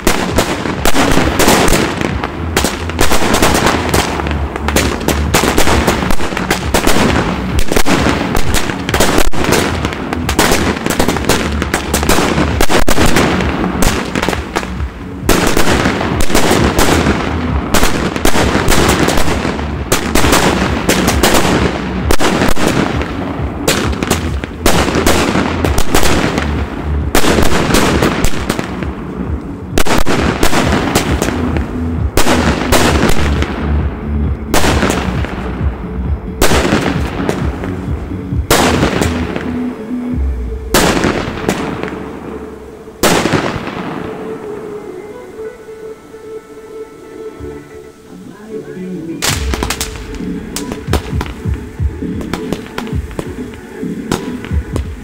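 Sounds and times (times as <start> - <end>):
fireworks bangs and crackling: 0.0 - 45.5, 48.5 - 55.0.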